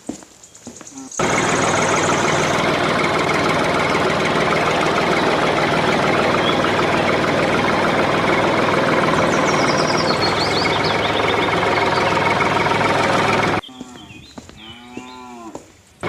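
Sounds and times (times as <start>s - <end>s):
engine running: 1.2s - 14.1s.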